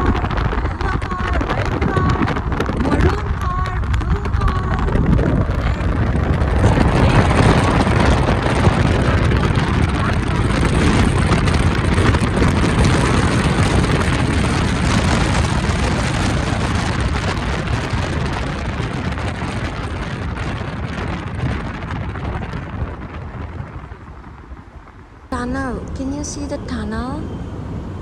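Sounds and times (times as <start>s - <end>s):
car road and wind roar: 0.0s - 28.0s.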